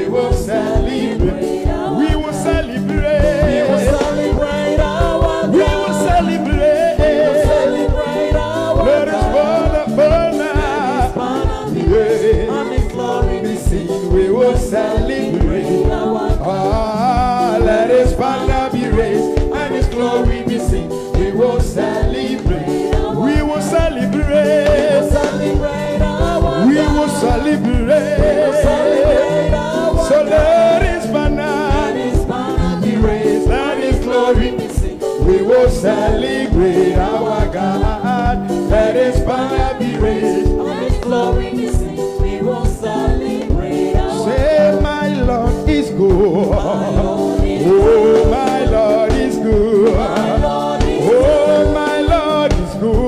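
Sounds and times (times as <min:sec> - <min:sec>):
band with fast drum beat: 0:00.0 - 0:53.0.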